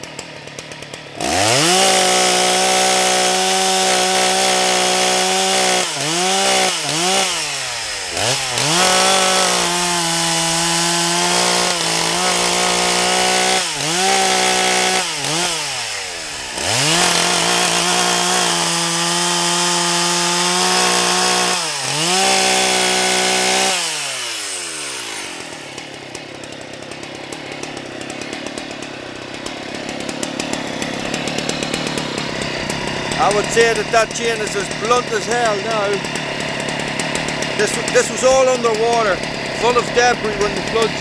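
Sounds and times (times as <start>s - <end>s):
chainsaw cutting logs: 0.0s - 41.0s.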